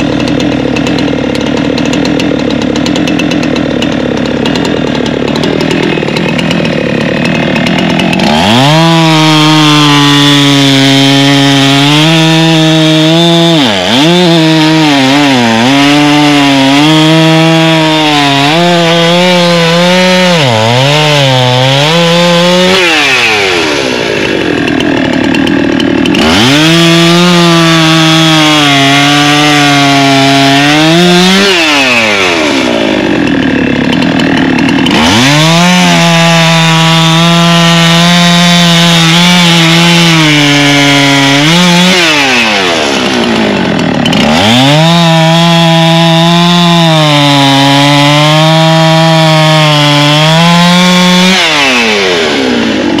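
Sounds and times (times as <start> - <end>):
chainsaws cutting logs: 0.0 - 53.0.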